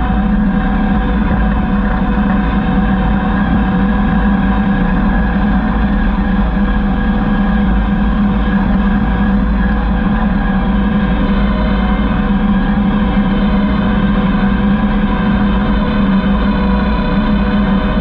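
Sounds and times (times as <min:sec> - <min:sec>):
diesel engine running steadily: 0:00.0 - 0:18.0.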